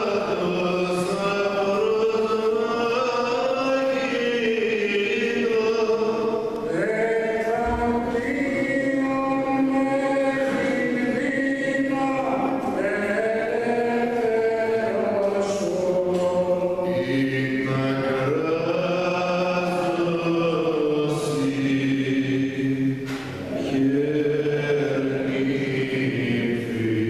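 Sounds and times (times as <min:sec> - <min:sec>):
man chanting: 0:00.0 - 0:27.0.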